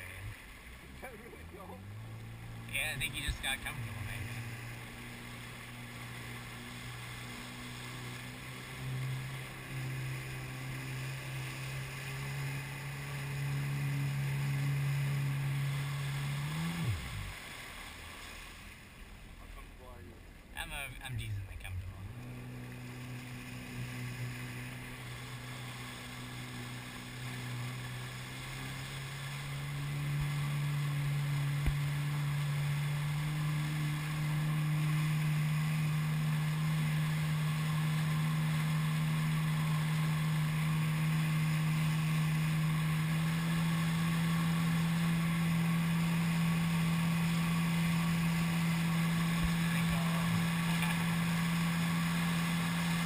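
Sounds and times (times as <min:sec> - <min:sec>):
jet ski engine running: 0:00.0 - 0:53.0
water and wind hiss: 0:00.0 - 0:53.0.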